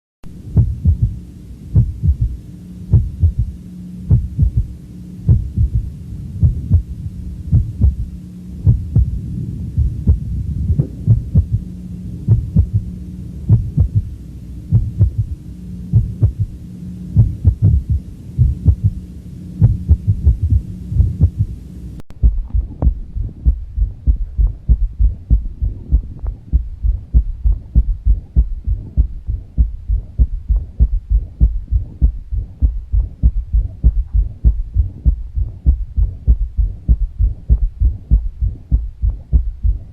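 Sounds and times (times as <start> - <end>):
steady low hum: 0.2 - 39.9
heartbeat through a stethoscope: 0.3 - 19.0, 19.6 - 39.9.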